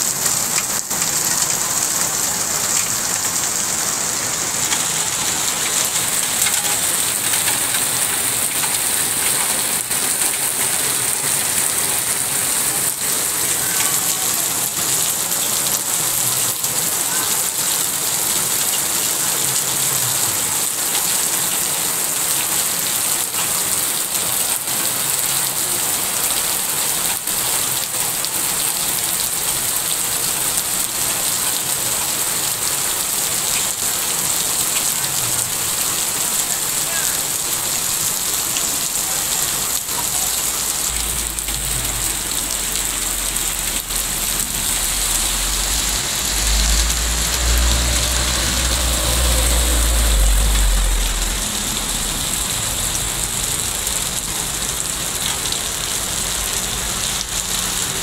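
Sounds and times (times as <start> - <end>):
heavy rain on street: 0.0 - 58.0
water pouring off roof: 0.0 - 58.0.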